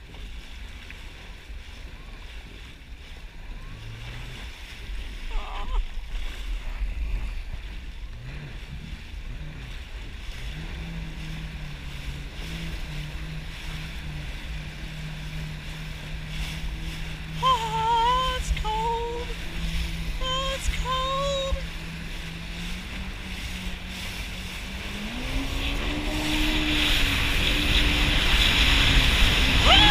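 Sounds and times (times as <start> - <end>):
jet ski engine running: 0.0 - 29.9
water noise: 0.0 - 29.9
wind rumble: 0.0 - 29.9.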